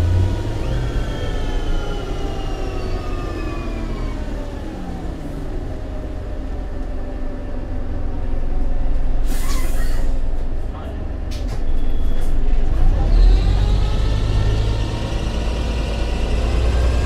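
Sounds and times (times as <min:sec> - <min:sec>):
bus drivetrain rumble and whine: 0:00.0 - 0:17.0.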